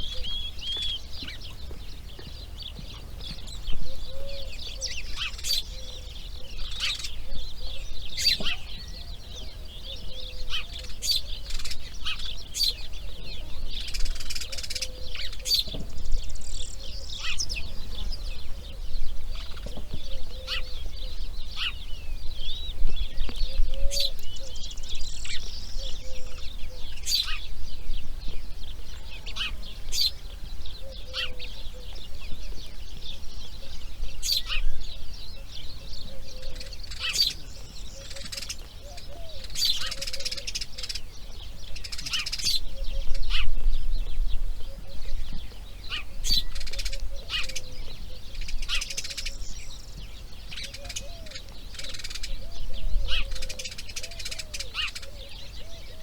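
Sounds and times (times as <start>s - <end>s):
faint lower bird calls: 0.0s - 28.0s, 28.9s - 56.0s
birds high chirps: 0.0s - 56.0s.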